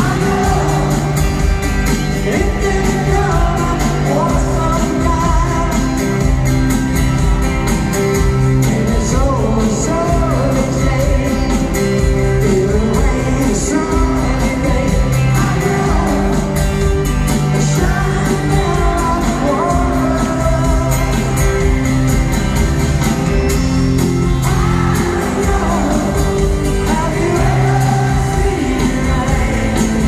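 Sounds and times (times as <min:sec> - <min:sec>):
lead vocal singing: 0:00.0 - 0:06.4, 0:08.4 - 0:21.7, 0:24.2 - 0:30.0
live rock band: 0:00.0 - 0:30.0.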